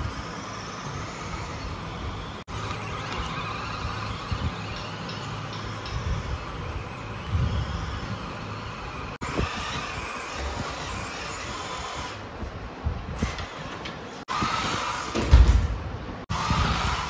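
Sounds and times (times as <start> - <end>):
electric motor and gearbox whirring: 0.0 - 17.0.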